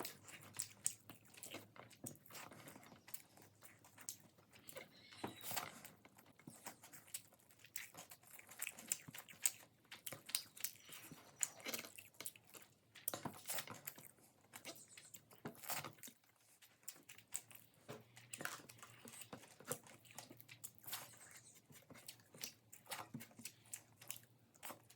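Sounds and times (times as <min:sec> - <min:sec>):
person chewing crunchy food: 0:00.0 - 0:24.9.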